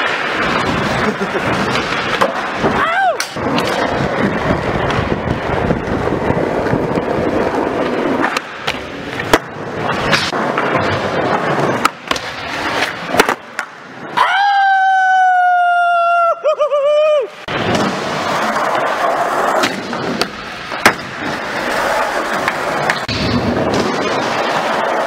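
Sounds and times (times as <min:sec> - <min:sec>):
skateboard clacks: 0:00.0 - 0:14.3, 0:17.5 - 0:25.0
skateboard wheels rolling on concrete: 0:00.0 - 0:25.0.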